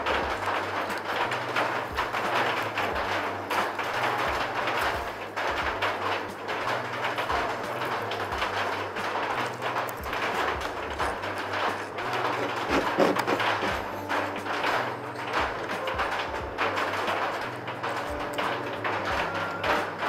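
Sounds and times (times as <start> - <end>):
background music with bass line: 0.0 - 20.0.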